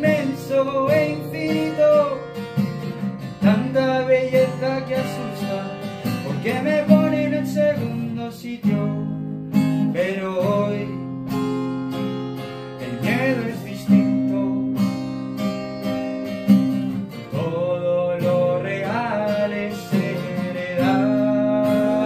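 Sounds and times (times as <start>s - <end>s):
man singing: 0.0s - 2.5s, 3.2s - 11.4s, 12.8s - 15.1s, 17.1s - 22.0s
acoustic guitar strumming: 0.0s - 22.0s.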